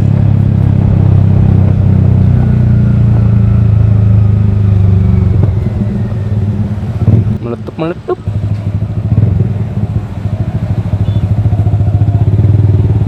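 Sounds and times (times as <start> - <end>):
motorcycle engine bassy note: 0.0 - 13.0.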